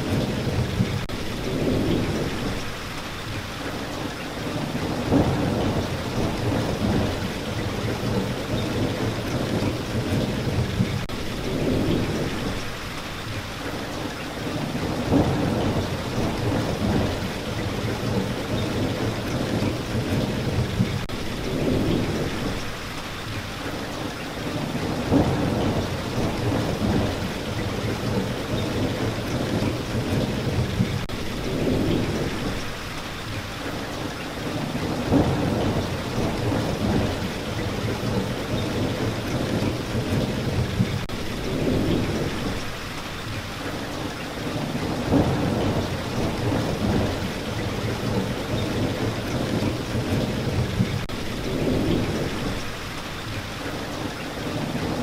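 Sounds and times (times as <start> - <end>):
thunder rumbling: 0.0 - 2.8, 4.5 - 12.8, 14.5 - 22.8, 24.5 - 32.8, 34.4 - 42.8, 44.4 - 52.9
heavy rain falling: 0.0 - 55.0.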